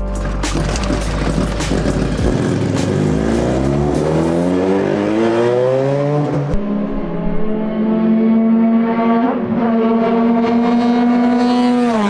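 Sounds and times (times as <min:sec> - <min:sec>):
race engine revving: 0:00.0 - 0:12.0.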